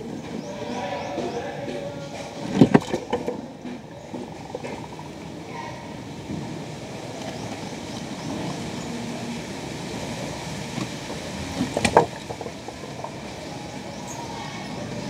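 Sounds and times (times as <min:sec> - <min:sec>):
steady low rumbling: 0:00.0 - 0:15.0.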